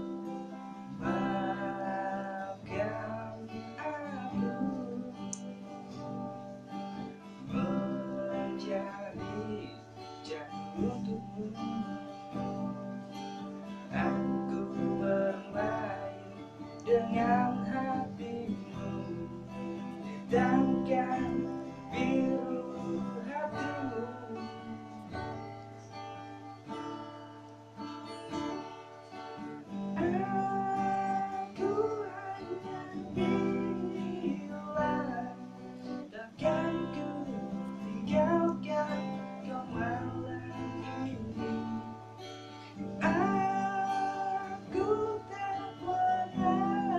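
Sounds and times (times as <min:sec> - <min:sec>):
acoustic guitar strummed and picked: 0:00.0 - 0:46.9.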